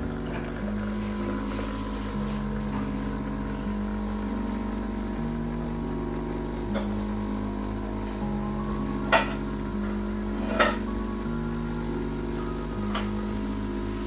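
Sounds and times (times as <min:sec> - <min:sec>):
high cricket-like tone: 0:00.0 - 0:14.0
music of sustained low notes: 0:00.0 - 0:14.0.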